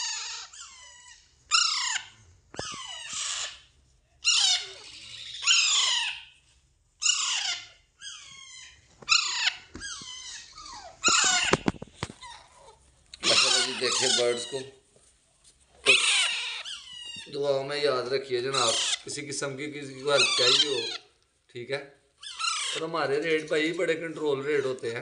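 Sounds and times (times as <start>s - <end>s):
parakeet chicks begging squawks: 0.0s - 6.4s, 7.0s - 14.7s, 15.8s - 21.2s, 22.1s - 23.7s.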